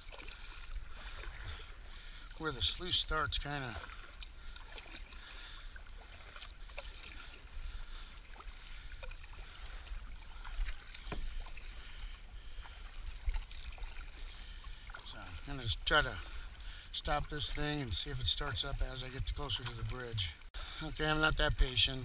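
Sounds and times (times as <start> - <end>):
paddle strokes in water: 0.0 - 22.0.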